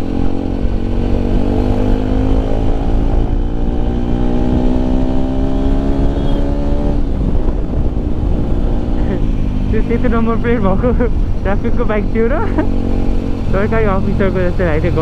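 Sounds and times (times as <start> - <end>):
low wind rumble: 0.0 - 15.0
motorcycle engine accelerating: 0.0 - 15.0.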